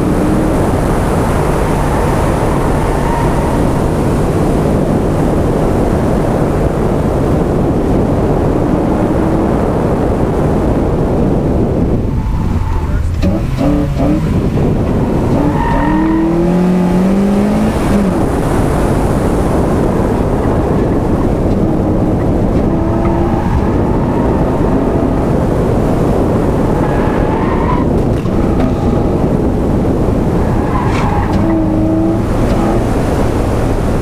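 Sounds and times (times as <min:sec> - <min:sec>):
car engine revving hard: 0:00.0 - 0:06.6, 0:07.4 - 0:34.0
wind noise rushing: 0:00.0 - 0:34.0.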